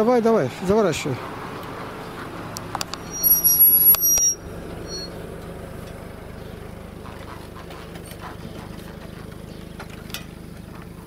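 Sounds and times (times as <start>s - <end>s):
car engine low hum: 0.0s - 11.0s.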